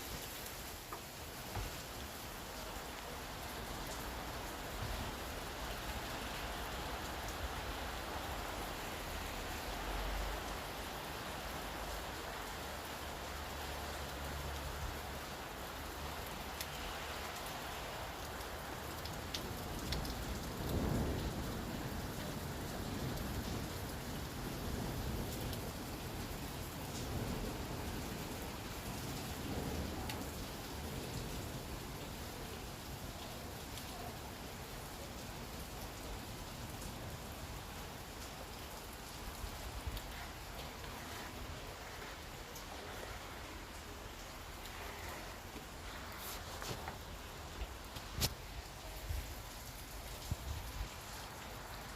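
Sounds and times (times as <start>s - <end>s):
rain on hard surfaces: 0.0s - 51.9s.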